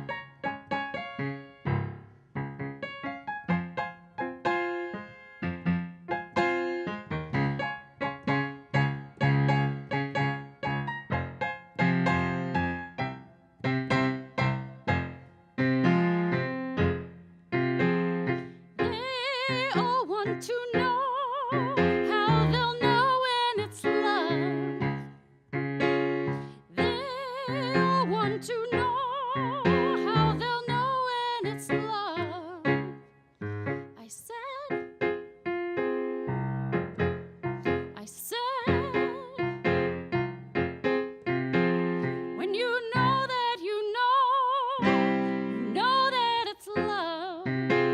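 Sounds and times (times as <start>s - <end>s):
piano playing tango chords: 0.0s - 43.4s, 44.0s - 47.9s.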